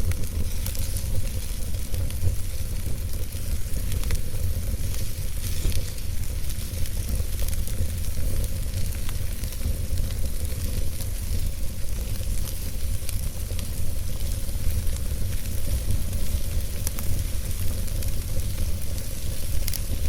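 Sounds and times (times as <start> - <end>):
fire crackling and popping: 0.0 - 20.0
low rumble of fire: 0.0 - 20.0.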